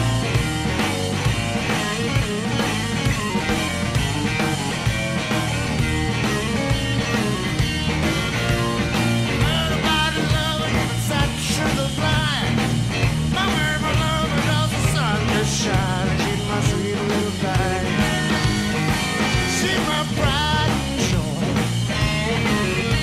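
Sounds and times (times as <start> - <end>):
rock music: 0.0 - 23.0.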